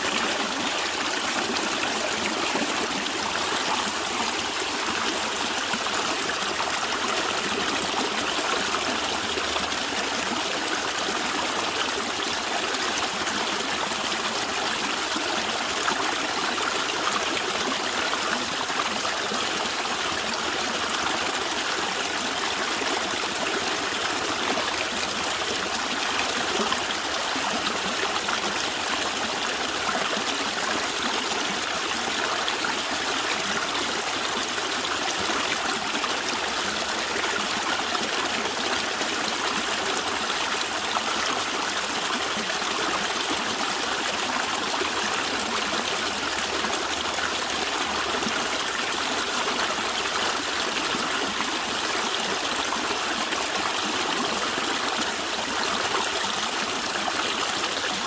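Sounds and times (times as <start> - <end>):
stream gurgling over rocks: 0.0 - 58.0.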